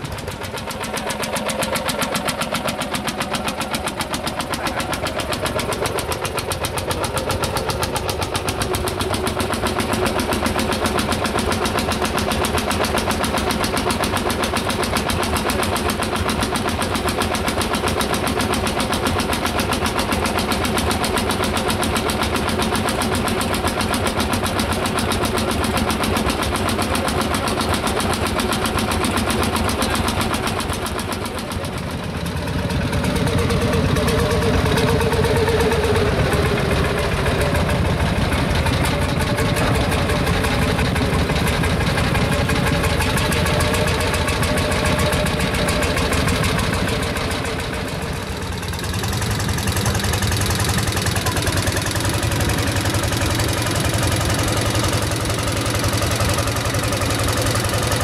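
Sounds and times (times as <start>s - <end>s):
tractor engines running: 0.0s - 58.0s.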